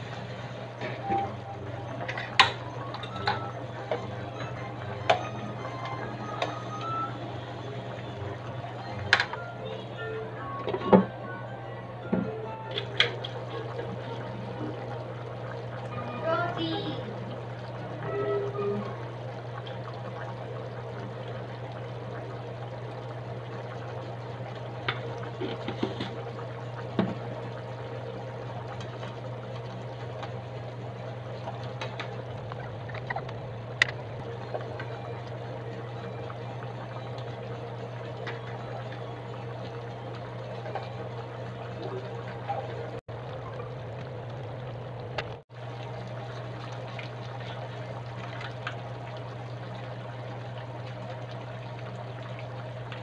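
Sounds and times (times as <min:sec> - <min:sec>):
broth bubbling in a frying pan: 0:00.0 - 0:11.2, 0:11.9 - 0:53.0
low hum: 0:00.0 - 0:53.0.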